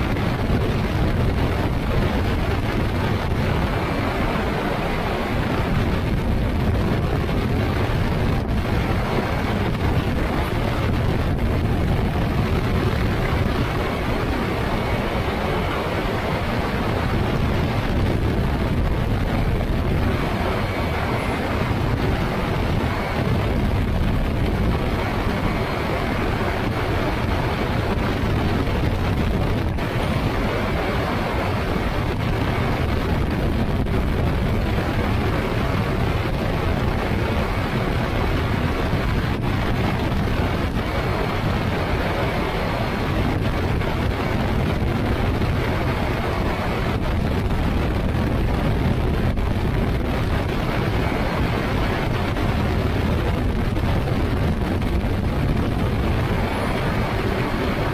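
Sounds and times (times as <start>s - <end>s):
aircraft engine and propeller: 0.0s - 57.9s
wind rushing over microphone: 0.0s - 57.9s.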